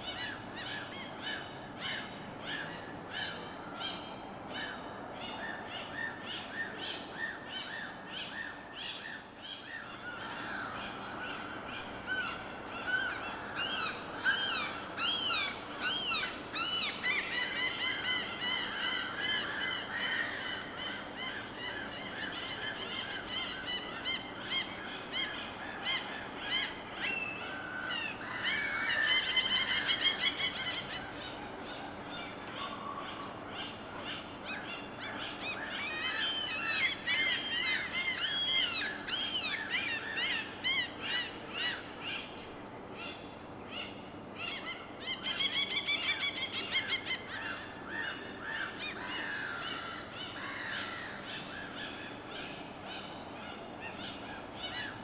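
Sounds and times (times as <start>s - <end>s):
faint steady hiss: 0.0s - 55.0s
birds calling: 8.9s - 55.0s.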